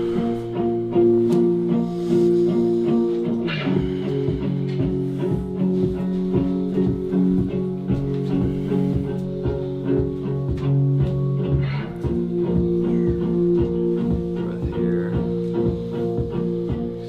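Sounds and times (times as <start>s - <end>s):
song with guitar and beat: 0.0s - 17.0s.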